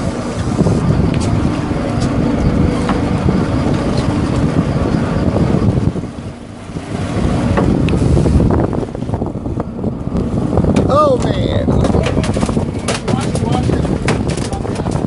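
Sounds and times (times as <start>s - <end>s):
boat engines running: 0.0s - 15.0s
wind buffeting microphone: 0.0s - 15.0s.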